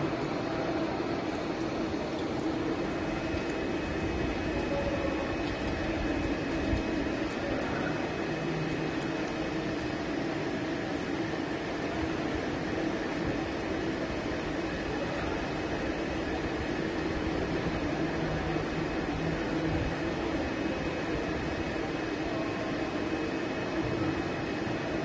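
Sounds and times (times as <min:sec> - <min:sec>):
machine hum and hiss: 0:00.0 - 0:25.0.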